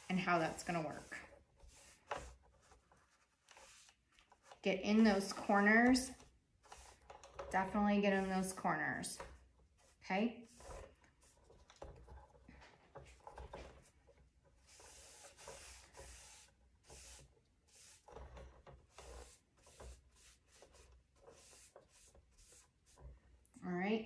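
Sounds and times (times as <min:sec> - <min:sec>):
paintbrush swishing: 0:00.0 - 0:13.9, 0:14.5 - 0:23.4.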